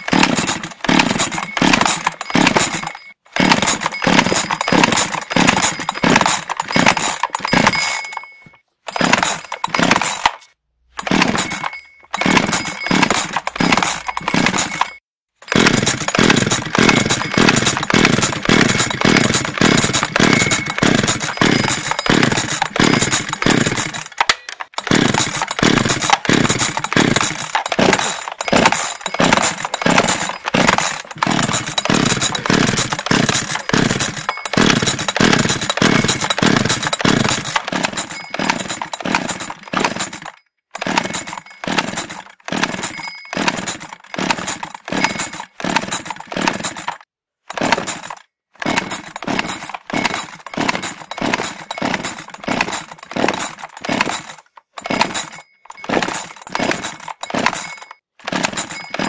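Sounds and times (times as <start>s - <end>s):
chainsaw being pull-started: 0.0s - 59.0s.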